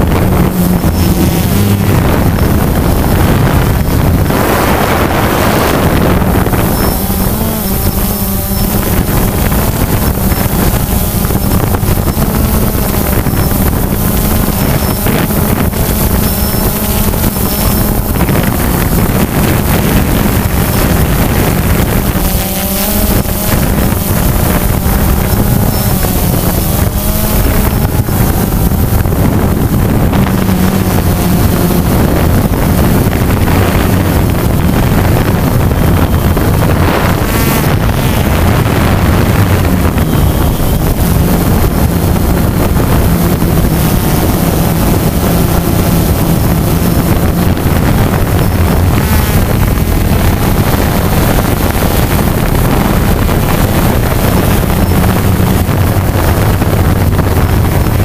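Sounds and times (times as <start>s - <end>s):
drone propellers buzzing: 0.0s - 58.0s.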